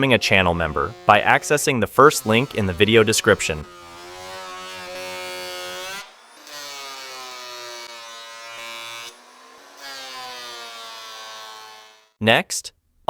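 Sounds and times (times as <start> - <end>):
thickness planer motor hum: 0.0 - 12.1.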